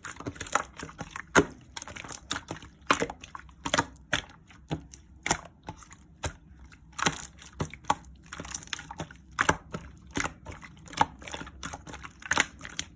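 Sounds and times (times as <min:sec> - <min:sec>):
slime squishing: 0:00.0 - 0:12.9.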